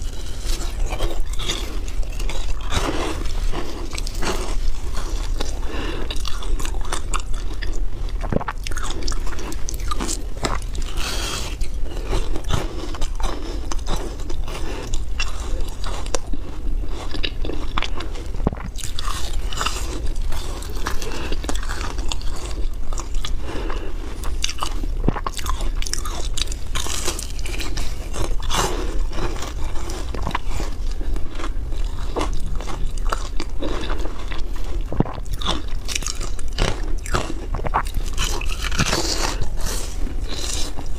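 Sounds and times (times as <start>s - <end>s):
teeth crunching frozen ice: 0.0s - 40.9s.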